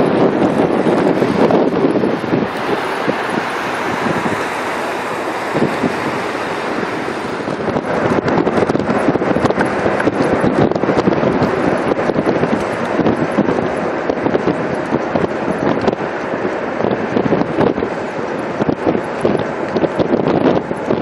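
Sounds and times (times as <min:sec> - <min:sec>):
road traffic rushing: 0:00.0 - 0:19.6
wind buffeting microphone: 0:00.0 - 0:21.0.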